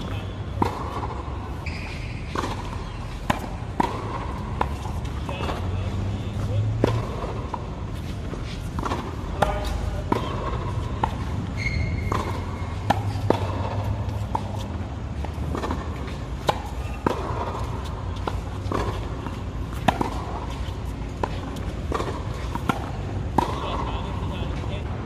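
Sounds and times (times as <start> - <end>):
tennis balls bouncing on court: 0.0 - 25.0
tennis balls struck by rackets: 0.0 - 25.0.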